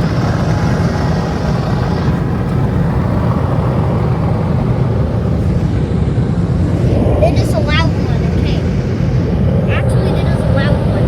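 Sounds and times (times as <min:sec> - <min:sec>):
car wash air dryer blowers: 0:00.0 - 0:11.0.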